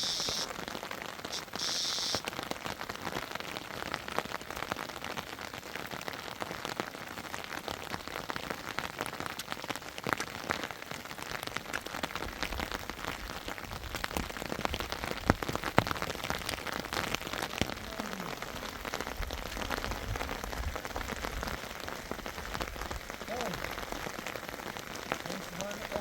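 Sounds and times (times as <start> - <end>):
rain falling: 0.0 - 26.0
raindrops ticking: 0.0 - 26.0.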